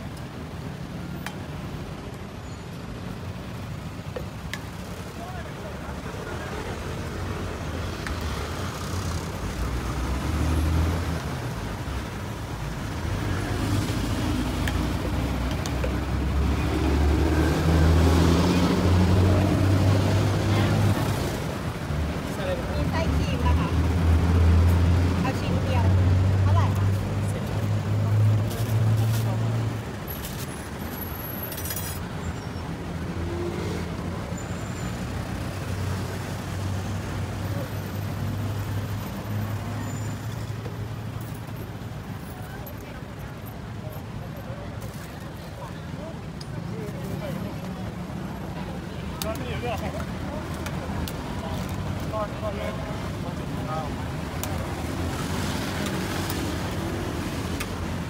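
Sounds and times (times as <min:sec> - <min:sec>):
road traffic rumble: 0:00.0 - 0:58.0
vehicle engines passing: 0:00.0 - 0:58.0.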